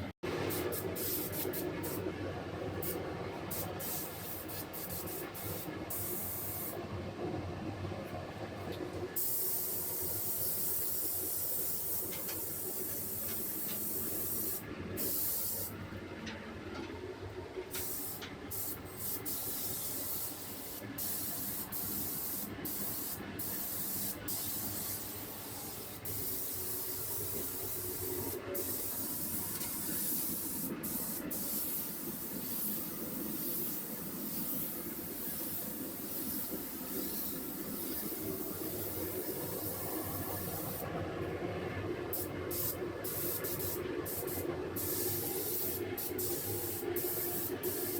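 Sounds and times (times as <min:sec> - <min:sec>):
paint spray gun hissing: 0:00.5 - 0:02.0, 0:02.8 - 0:06.8, 0:09.2 - 0:15.7, 0:17.8 - 0:40.8, 0:42.2 - 0:47.9.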